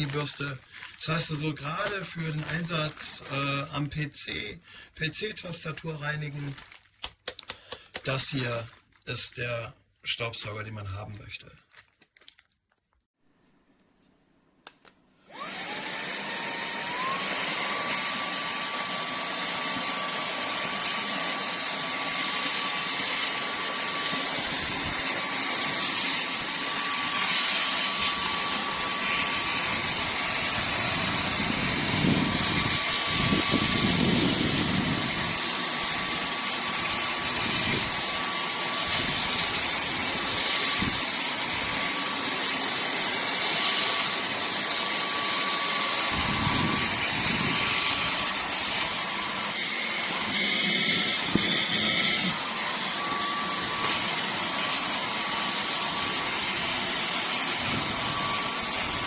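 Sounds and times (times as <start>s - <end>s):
handheld vacuum cleaner motor whine: 0.0s - 3.7s, 15.2s - 59.0s.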